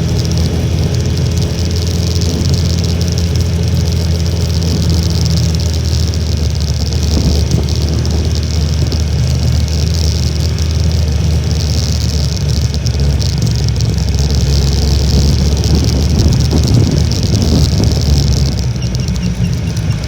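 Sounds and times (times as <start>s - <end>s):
small motorcycle engine running: 0.0s - 20.0s
wind rushing on microphone: 0.0s - 20.0s.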